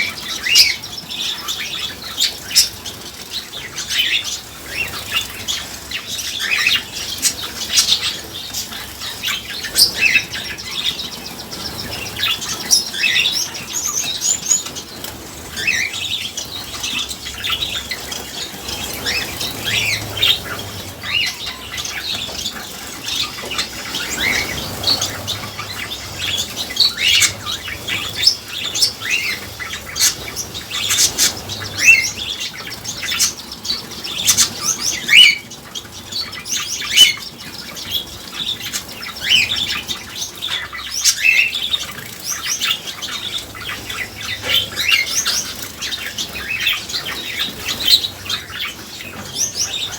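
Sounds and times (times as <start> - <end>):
birds wing fluttering and splashing: 0.0 - 49.9
finches high chirps: 0.0 - 49.9.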